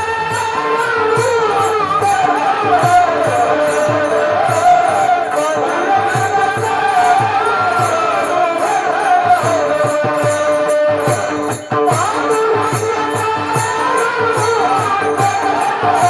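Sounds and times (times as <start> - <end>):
drum beat: 0.0 - 16.0
small hand cymbals: 0.0 - 16.0.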